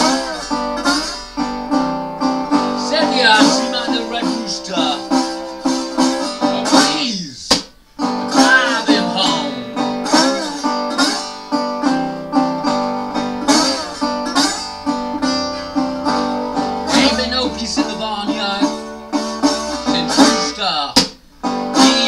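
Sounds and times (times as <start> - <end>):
resonator guitar slow blues: 0.0 - 22.0.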